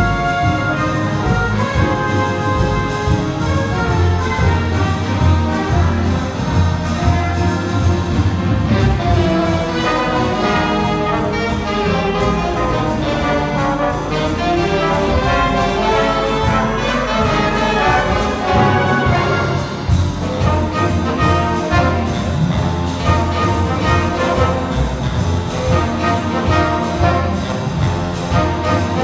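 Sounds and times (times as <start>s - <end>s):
double bass: 0.0s - 29.0s
piano: 0.0s - 29.0s
trombones: 0.0s - 29.0s
trumpets: 0.0s - 29.0s.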